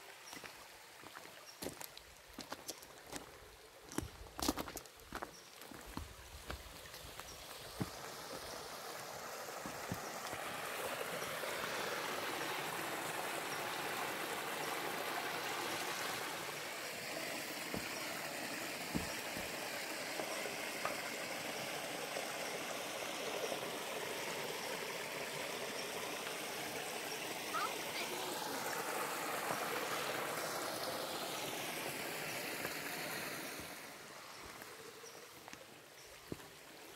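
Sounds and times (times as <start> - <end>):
stream flowing: 0.0 - 36.9.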